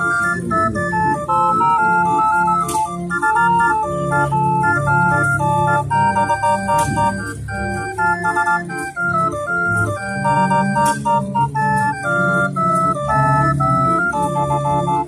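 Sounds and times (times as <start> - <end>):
street organ playing a tune: 0.0 - 15.0.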